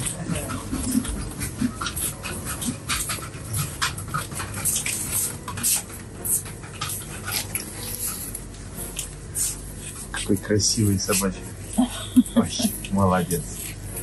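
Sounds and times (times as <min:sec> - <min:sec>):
small dog panting: 0:00.0 - 0:13.8.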